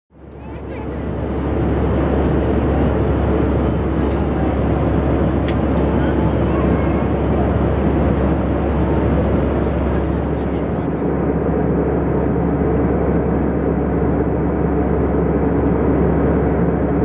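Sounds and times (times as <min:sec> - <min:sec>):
airplane cabin engine roar: 0:00.1 - 0:17.0.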